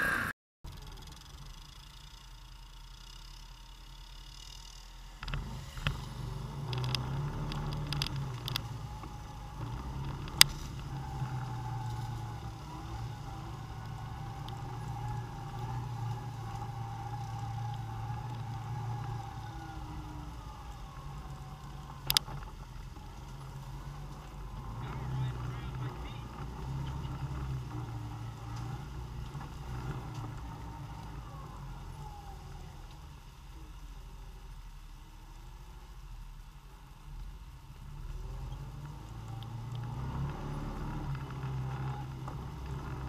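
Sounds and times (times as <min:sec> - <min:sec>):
atv engine running: 0:00.0 - 0:35.7, 0:37.2 - 0:43.0.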